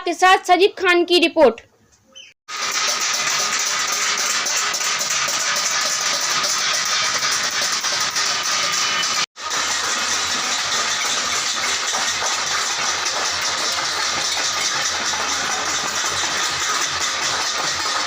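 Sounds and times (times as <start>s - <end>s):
banging steel plates: 2.5s - 18.0s.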